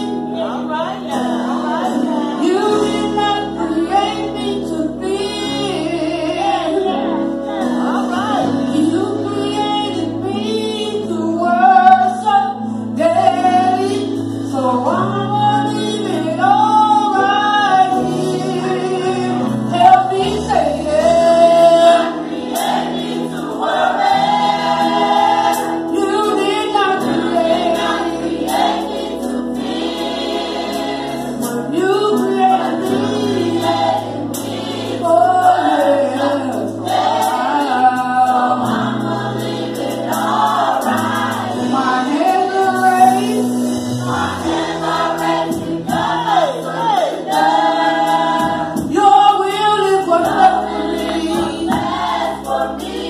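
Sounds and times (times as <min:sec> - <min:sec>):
woman singing lead: 0:00.0 - 0:22.2, 0:24.9 - 0:29.5, 0:31.2 - 0:39.2, 0:40.2 - 0:52.8
choir singing gospel: 0:00.0 - 0:53.0
keyboard accompaniment: 0:00.0 - 0:53.0.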